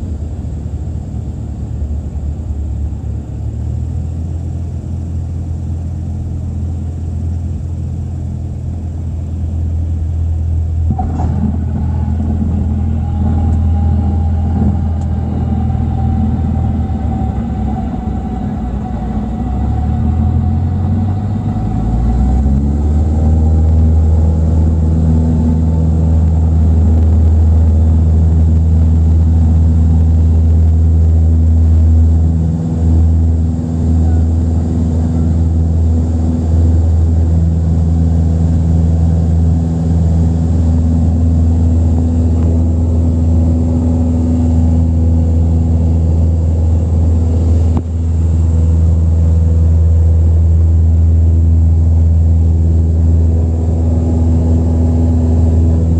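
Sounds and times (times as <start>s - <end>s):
propeller plane engine drone: 0.0s - 55.9s.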